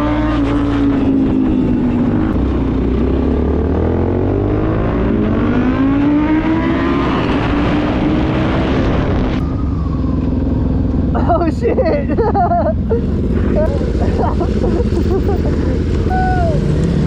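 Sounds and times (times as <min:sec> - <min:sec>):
motorcycle engine revving: 0:00.0 - 0:11.4, 0:12.3 - 0:17.0.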